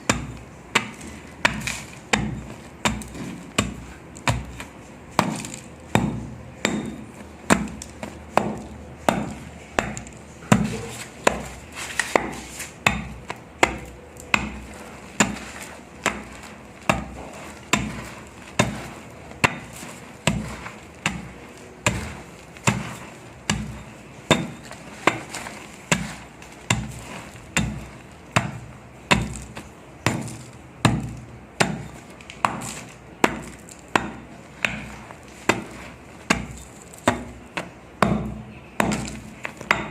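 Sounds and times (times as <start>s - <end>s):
dry sand crumbling with crunch: 0.0s - 39.9s.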